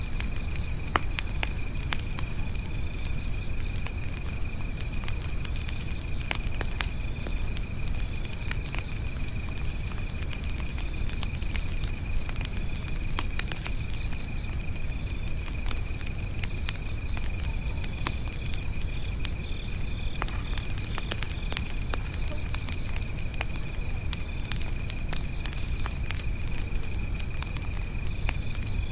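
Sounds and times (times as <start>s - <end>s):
campfire crackling and popping: 0.0s - 28.9s
insects chirping: 0.0s - 28.9s.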